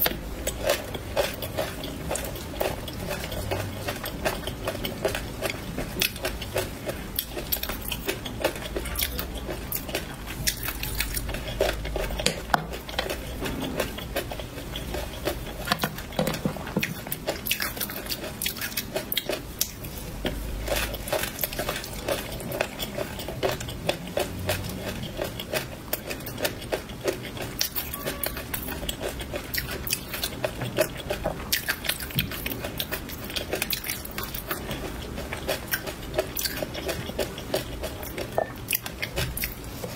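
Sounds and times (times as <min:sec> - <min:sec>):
chewing crunchy peanuts: 0:00.0 - 0:39.9.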